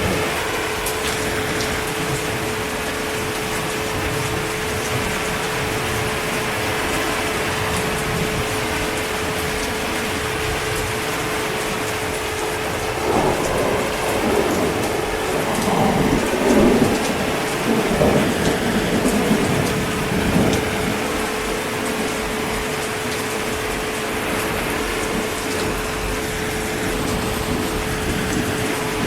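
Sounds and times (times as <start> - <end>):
heavy rain: 0.0 - 29.0
thunder rumbling: 0.0 - 29.0.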